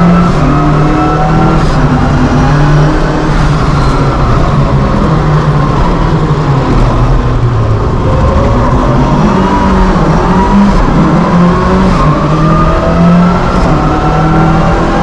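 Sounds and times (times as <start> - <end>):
rally car engine under load: 0.0 - 15.0
road and tyre noise: 0.0 - 15.0.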